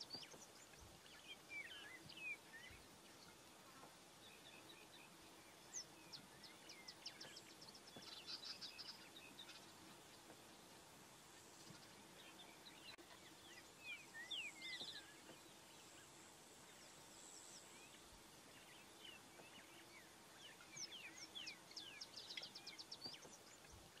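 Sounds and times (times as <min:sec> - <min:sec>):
wild birds chirping and trilling: 0:00.0 - 0:24.0.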